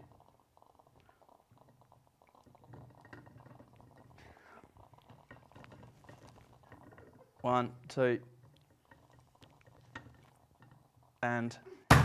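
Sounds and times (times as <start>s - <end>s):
espresso maker bubbling: 0.0s - 11.6s.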